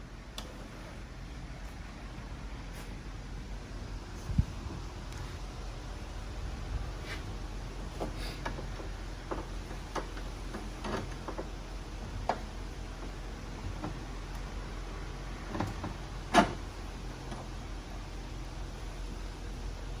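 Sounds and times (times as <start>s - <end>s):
low hum and hiss: 0.0s - 20.0s.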